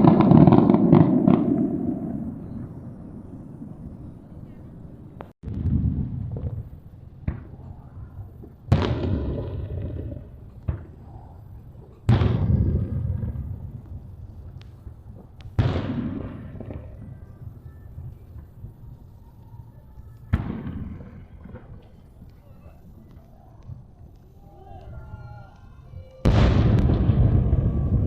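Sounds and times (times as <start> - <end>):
fireworks booms with echoing rumble: 0.0 - 24.4, 26.2 - 28.0
small fireworks pops: 4.4 - 28.0.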